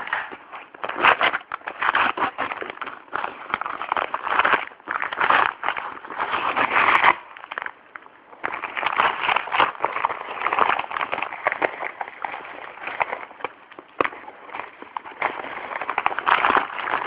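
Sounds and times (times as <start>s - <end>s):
packaging being torn open: 0.0s - 7.8s, 8.4s - 17.0s.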